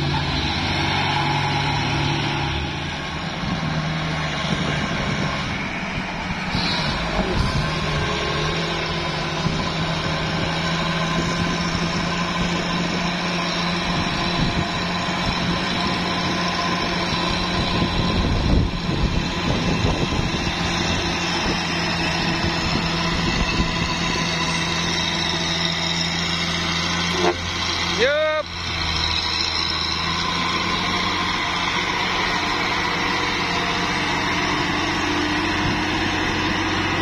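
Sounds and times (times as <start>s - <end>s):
diesel truck engine labouring uphill: 0.0s - 37.0s.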